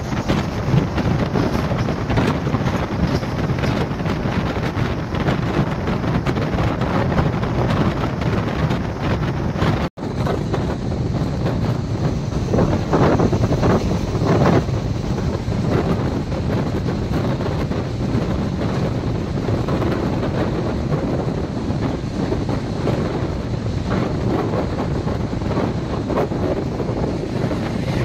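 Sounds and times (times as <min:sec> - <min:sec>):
train wheels rumbling on track: 0:00.0 - 0:28.0
wind buffeting microphone: 0:00.0 - 0:28.0.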